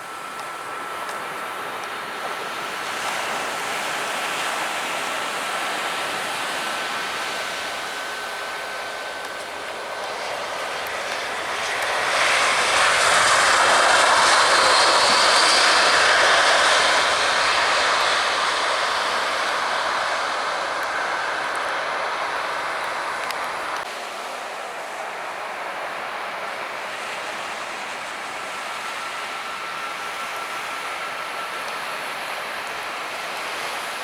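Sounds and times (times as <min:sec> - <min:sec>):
faint high whine: 0:00.0 - 0:34.0
jet engines roaring: 0:00.0 - 0:34.0.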